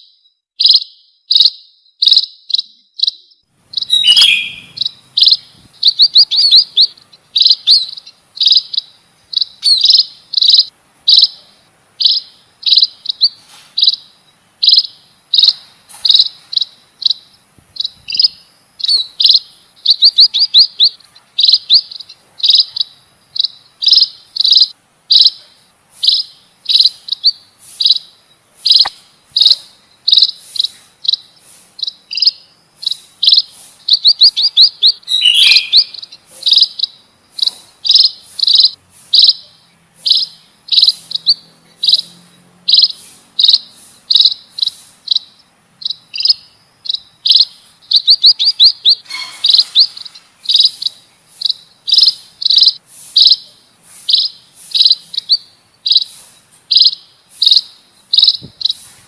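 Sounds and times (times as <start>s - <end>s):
quick high bird chirps: 0.0s - 59.0s.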